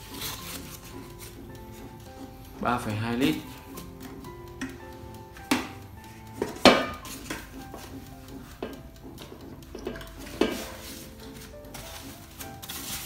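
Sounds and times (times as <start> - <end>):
air fryer basket knocking and clattering: 0.0 - 13.0.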